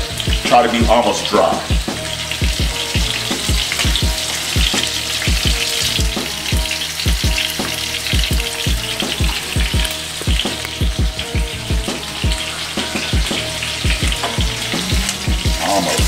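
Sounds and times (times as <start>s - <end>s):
chicken sizzling in a skillet: 0.0s - 16.0s.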